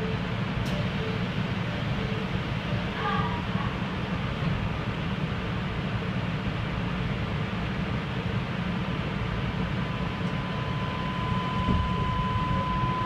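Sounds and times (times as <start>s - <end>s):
faint high steady whine: 0.0s - 13.0s
train running rumble and hiss: 0.0s - 13.0s.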